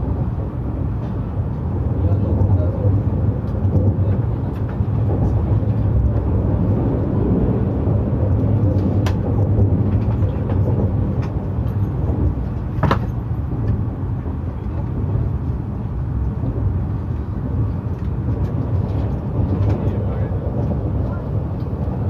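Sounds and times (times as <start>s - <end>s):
train rumble from inside: 0.0s - 22.0s.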